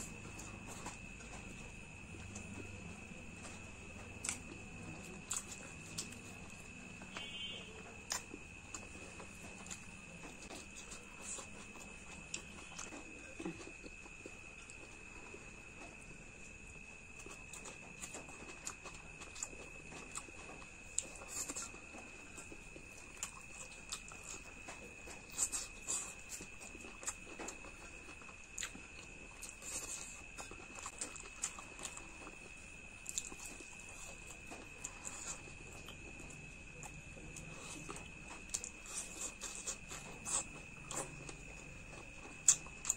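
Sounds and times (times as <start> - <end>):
person chewing and smacking: 0.0 - 42.9.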